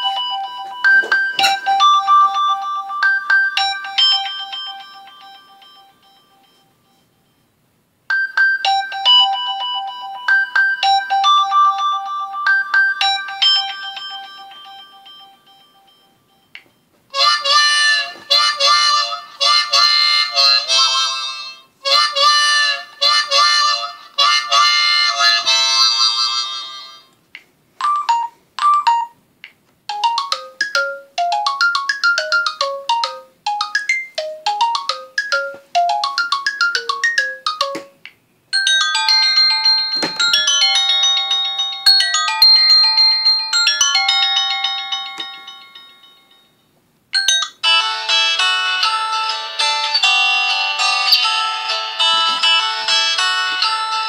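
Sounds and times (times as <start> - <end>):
electronic ringtone melodies: 0.0 - 27.0, 27.8 - 29.2, 29.9 - 54.0.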